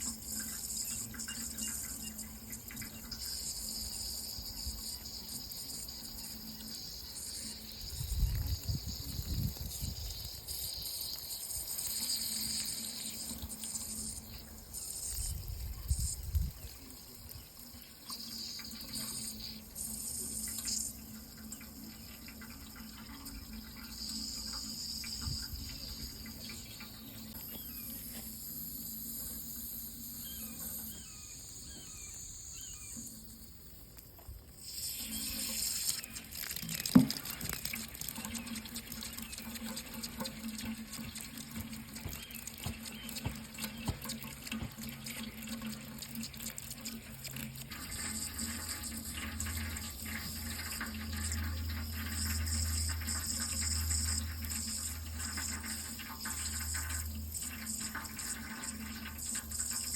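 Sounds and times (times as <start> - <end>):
tap water running into sink: 0.0 - 32.0, 34.2 - 59.9.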